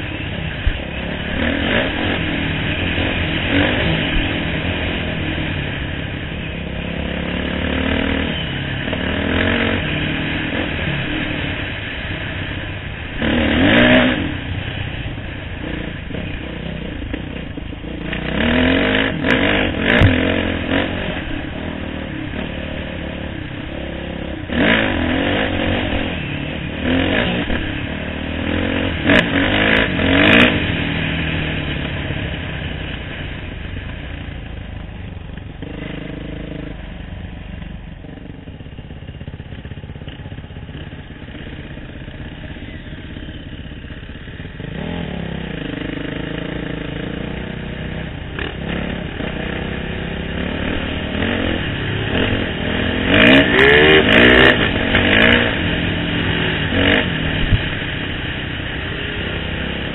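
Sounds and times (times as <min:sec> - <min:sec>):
dirt bike engine revving: 0:00.0 - 0:34.0, 0:35.6 - 0:36.9, 0:39.2 - 0:59.9.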